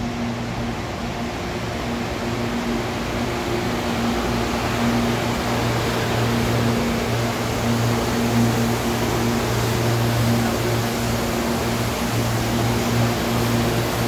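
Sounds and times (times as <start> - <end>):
low hum from train: 0.0 - 14.0
train wheels rolling on rails: 0.0 - 14.0.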